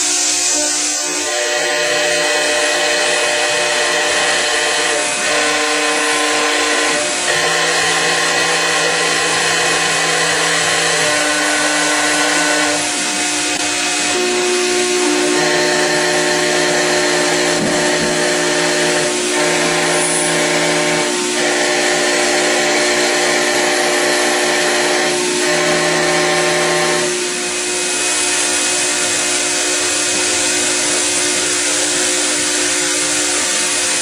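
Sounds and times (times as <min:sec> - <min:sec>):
cutting metal: 0:00.0 - 0:34.0
router spindle running: 0:00.0 - 0:34.0.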